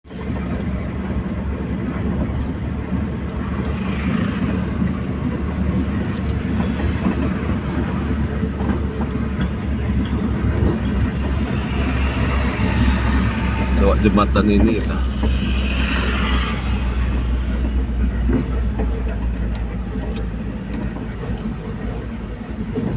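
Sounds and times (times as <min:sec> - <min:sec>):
vehicle rumble: 0:00.0 - 0:22.9.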